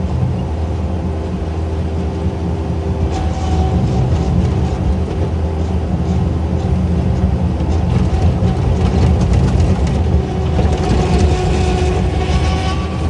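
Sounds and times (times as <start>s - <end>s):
machinery engine rumbling: 0.0s - 13.0s.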